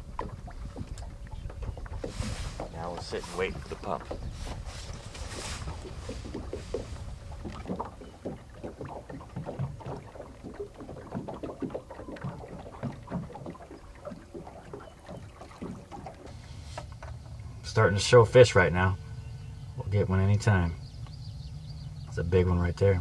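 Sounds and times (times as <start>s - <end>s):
waves lapping against boat hull: 0.0s - 18.6s
low steady rumble: 0.0s - 23.0s.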